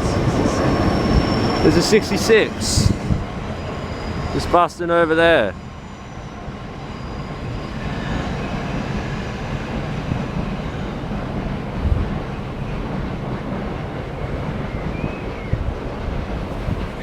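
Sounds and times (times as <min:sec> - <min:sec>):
diesel locomotive engine rumble: 0:00.0 - 0:17.0
train wheels on rails: 0:00.0 - 0:17.0.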